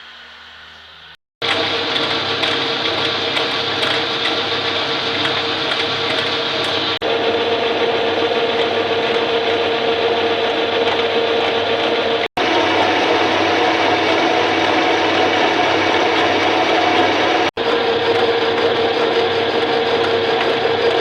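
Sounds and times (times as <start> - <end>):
power tool whining and grinding: 1.4 - 21.0.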